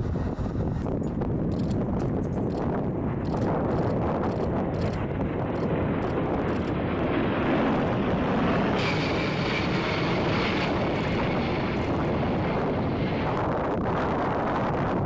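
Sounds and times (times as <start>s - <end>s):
high jet engine whine: 0.0s - 15.0s
jets passing overhead: 0.0s - 15.0s.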